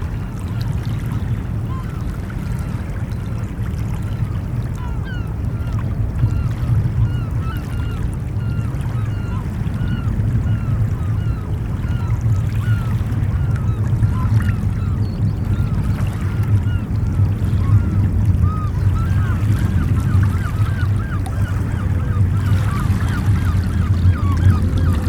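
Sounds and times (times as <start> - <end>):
ocean surf rumble: 0.0 - 25.0.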